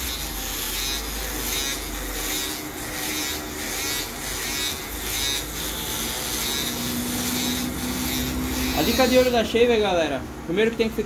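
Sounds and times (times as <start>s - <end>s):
electric foil shaver buzzing: 0.0s - 10.0s.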